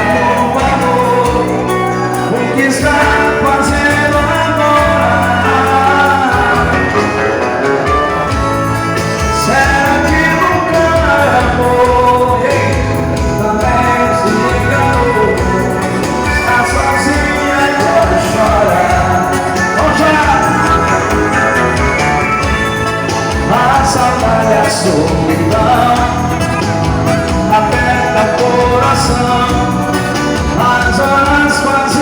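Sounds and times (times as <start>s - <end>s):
live band music: 0.0s - 32.0s
person singing: 0.0s - 32.0s
steady bass beat: 2.7s - 32.0s.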